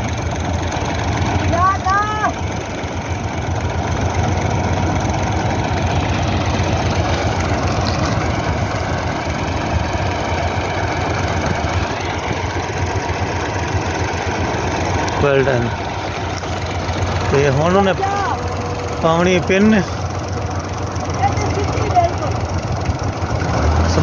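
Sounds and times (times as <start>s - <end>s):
tractor diesel engine: 0.0s - 24.0s.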